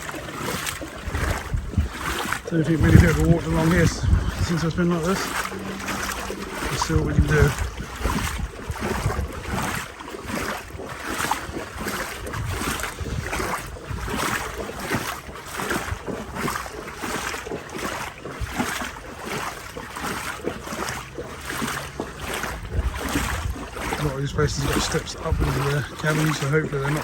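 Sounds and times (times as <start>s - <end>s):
legs sloshing through water: 0.0s - 27.0s
wind buffeting microphone: 0.0s - 27.0s.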